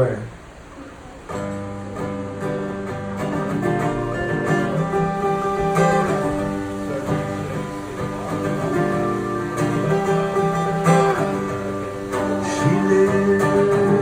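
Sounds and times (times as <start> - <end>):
solo guitar strumming chords: 1.3 - 14.0.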